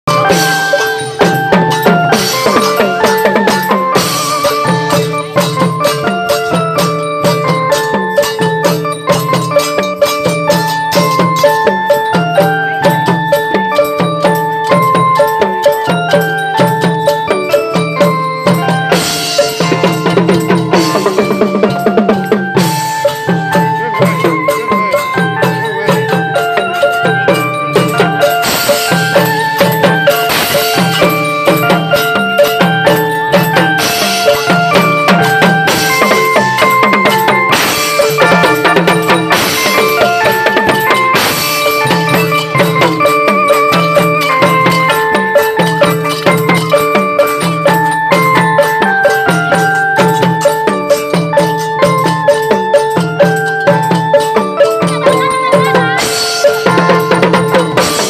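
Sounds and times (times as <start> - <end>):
drums beating: 0.0 - 58.0
melody over held drone: 0.1 - 58.0.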